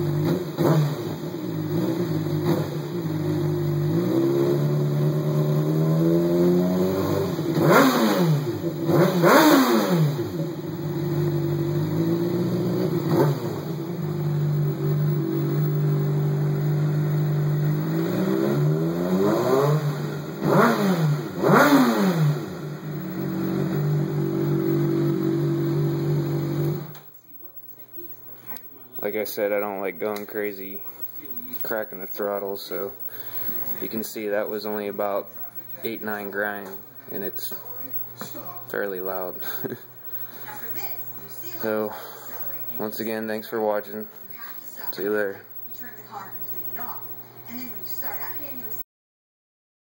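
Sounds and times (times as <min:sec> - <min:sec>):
motorcycle engine revving: 0:00.0 - 0:27.0, 0:29.0 - 0:45.7.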